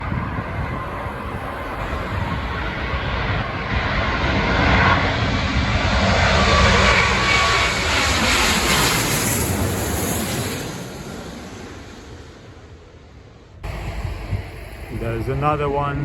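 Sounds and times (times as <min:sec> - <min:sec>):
airliner engine roar: 0:00.0 - 0:16.0
faint engine whine: 0:00.0 - 0:16.0.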